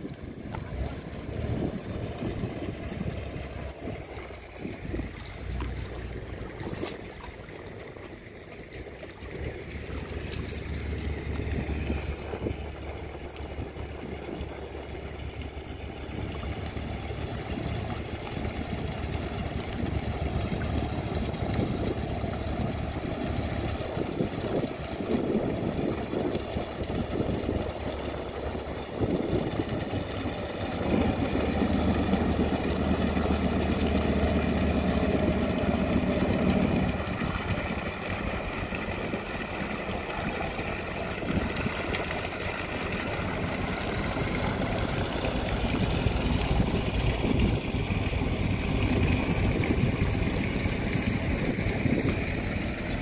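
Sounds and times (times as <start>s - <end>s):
boat diesel engine rumbling: 0.0s - 53.0s.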